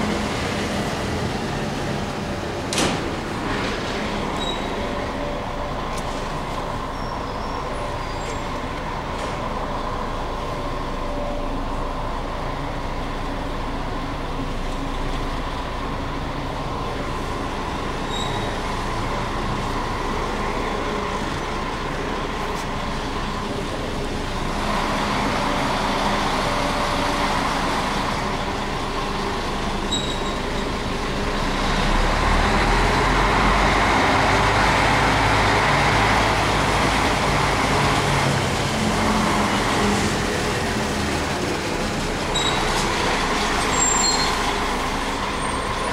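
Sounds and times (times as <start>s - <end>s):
lorry diesel engine running: 0.0s - 45.9s.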